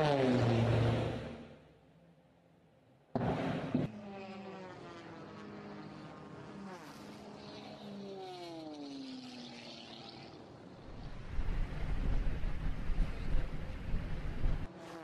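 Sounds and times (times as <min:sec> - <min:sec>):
aircraft engine passing by: 0:00.0 - 0:01.7, 0:03.2 - 0:15.0
propeller aircraft engines droning: 0:00.0 - 0:15.0.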